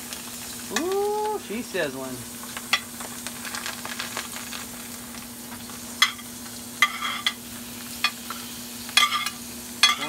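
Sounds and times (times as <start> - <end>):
vegetables sizzling in skillet: 0.0 - 10.0.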